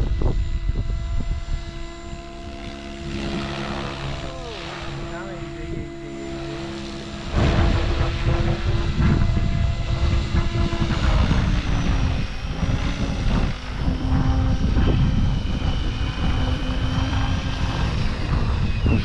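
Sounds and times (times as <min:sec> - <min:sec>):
helicopter rotor and motor: 0:00.0 - 0:19.0
wind rumble on microphone: 0:00.0 - 0:19.0.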